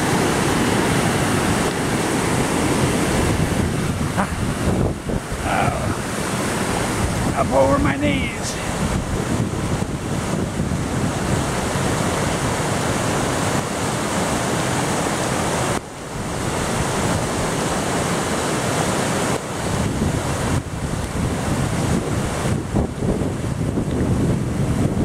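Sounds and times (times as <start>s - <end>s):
river rushing through rapids: 0.0s - 25.0s.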